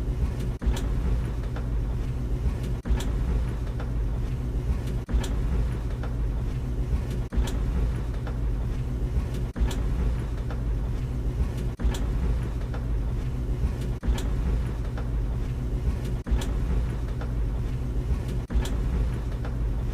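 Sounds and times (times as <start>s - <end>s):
tumble dryer rumbling: 0.0s - 19.9s.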